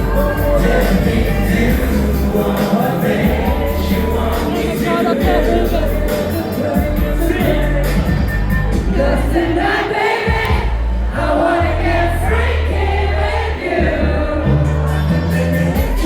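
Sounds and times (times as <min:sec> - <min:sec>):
pop backing track with heavy bass: 0:00.0 - 0:16.0
voices singing: 0:00.0 - 0:16.0.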